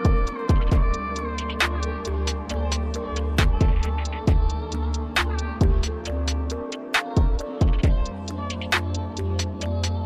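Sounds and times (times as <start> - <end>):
deep bass and chords: 0.0 - 10.0.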